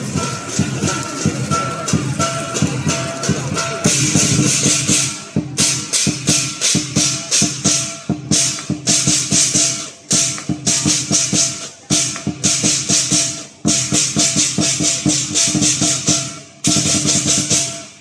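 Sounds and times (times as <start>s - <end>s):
cymbals clashing: 0.0s - 18.0s
drum beating: 0.0s - 18.0s.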